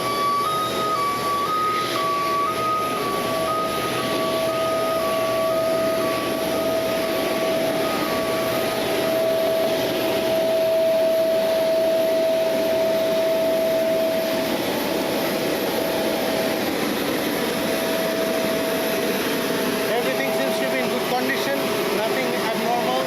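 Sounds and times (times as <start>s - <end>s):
high held tone: 0.0s - 23.0s
jet turbine whine: 0.0s - 23.0s.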